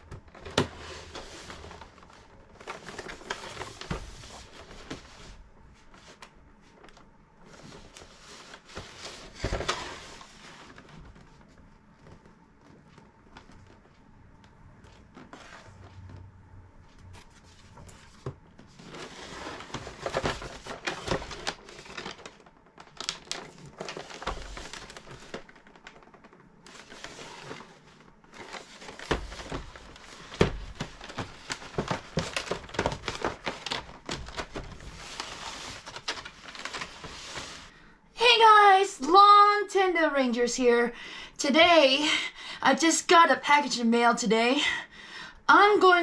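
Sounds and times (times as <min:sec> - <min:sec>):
material crinkling and rustling: 0:00.0 - 0:37.8.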